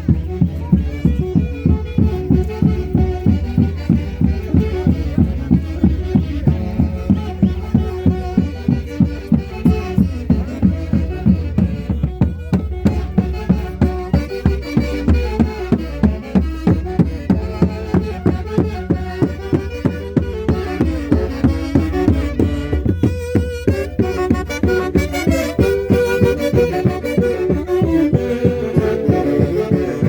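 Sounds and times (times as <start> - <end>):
folk orchestra playing festival music: 0.0 - 30.0
steady drum beat: 0.0 - 30.0.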